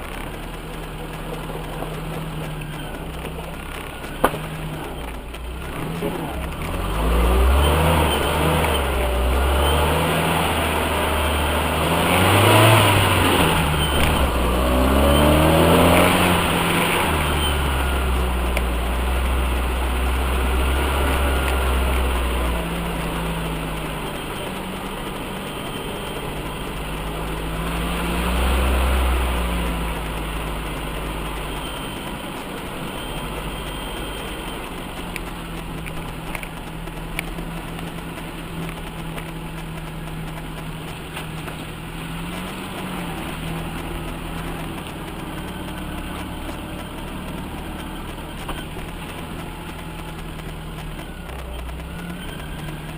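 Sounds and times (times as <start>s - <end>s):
off-road vehicle engine idling: 0.0s - 52.9s.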